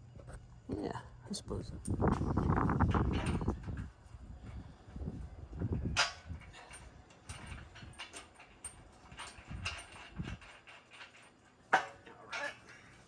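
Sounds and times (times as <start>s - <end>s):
wind rumble on microphone: 0.0s - 10.6s.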